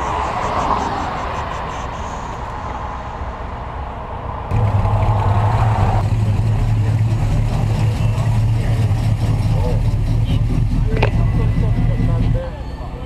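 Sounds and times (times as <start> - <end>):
vehicle engine idling: 1.1 - 13.0.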